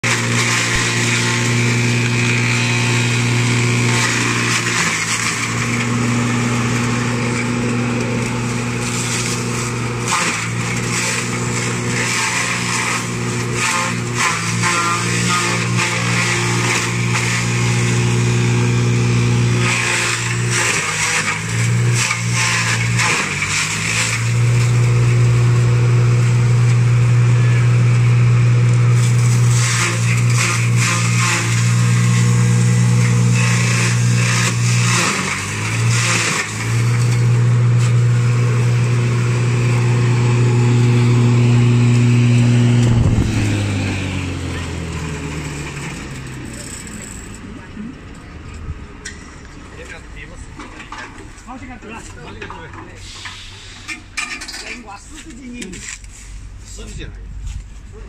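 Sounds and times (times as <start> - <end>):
crackling shredding of dry stalks: 0.0 - 47.3
chaff cutter humming: 0.0 - 48.2.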